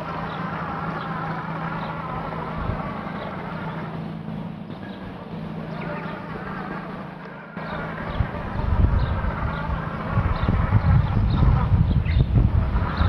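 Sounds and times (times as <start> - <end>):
robotic lawn mower motor hum: 0.0 - 13.0.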